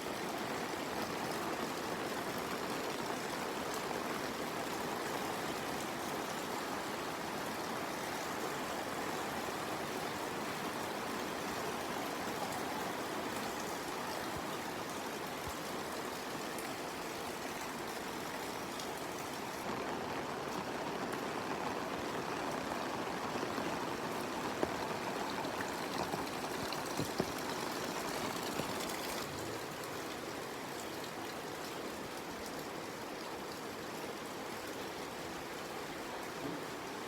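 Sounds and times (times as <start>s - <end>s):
steady rainfall: 0.0s - 37.0s.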